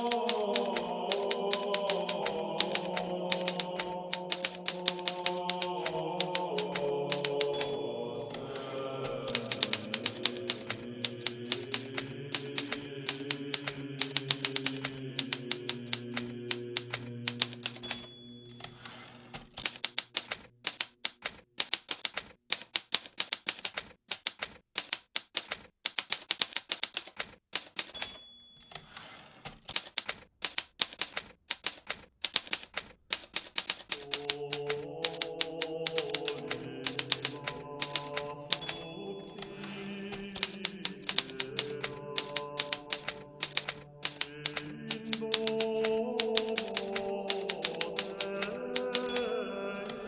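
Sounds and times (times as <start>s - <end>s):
typewriter margin bell: 0.0s - 15.3s, 15.9s - 21.0s, 26.5s - 32.6s, 33.2s - 34.4s, 35.8s - 50.0s
typewriter keys clicking: 0.0s - 50.0s.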